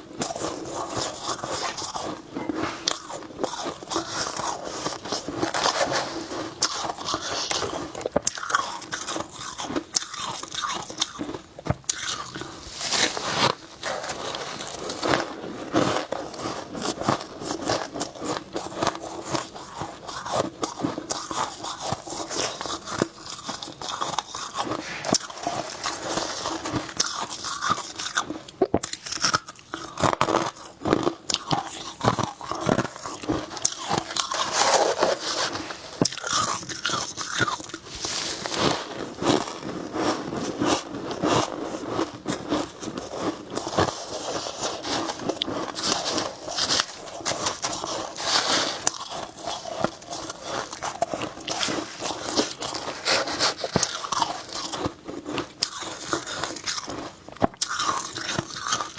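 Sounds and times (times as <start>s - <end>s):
frost being chewed crunching: 0.0s - 58.9s.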